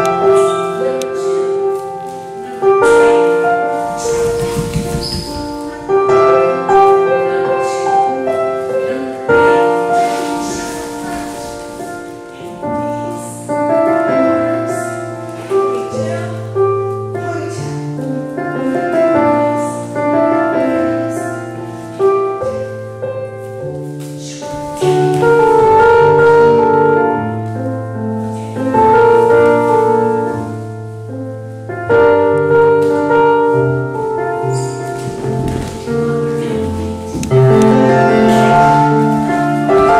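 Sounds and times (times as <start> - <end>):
slow gentle piano music: 0.0 - 39.9.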